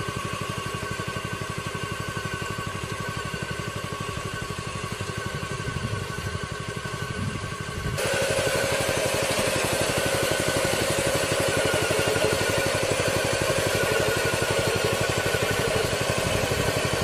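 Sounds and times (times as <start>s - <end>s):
engine running with fast throb: 0.0s - 17.0s
harvester conveyor running: 0.0s - 17.0s.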